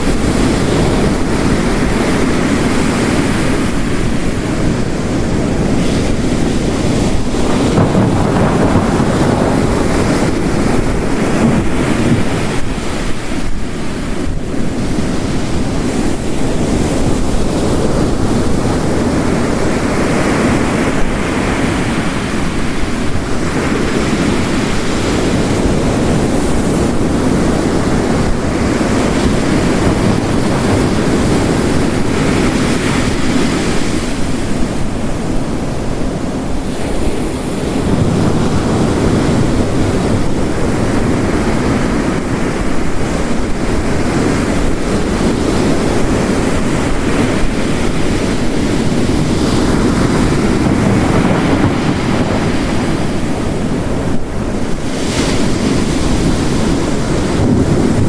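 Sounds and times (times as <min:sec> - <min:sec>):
ocean waves crashing: 0:00.0 - 0:58.0.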